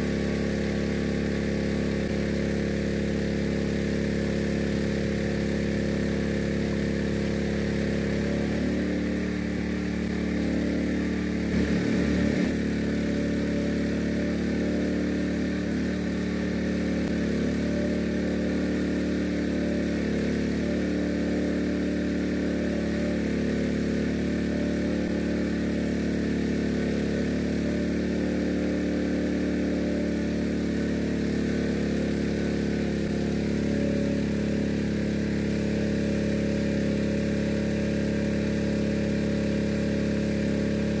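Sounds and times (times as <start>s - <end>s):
engine-driven pump running: 0.0s - 41.0s.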